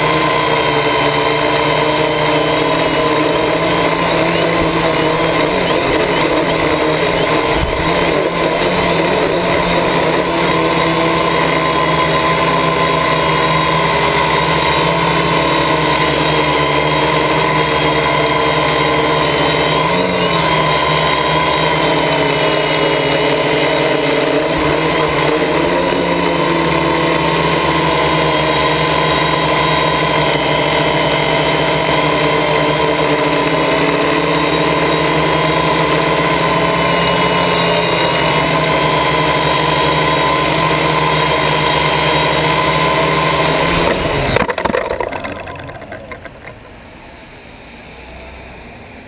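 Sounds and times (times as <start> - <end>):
drone propellers whirring: 0.0 - 49.0.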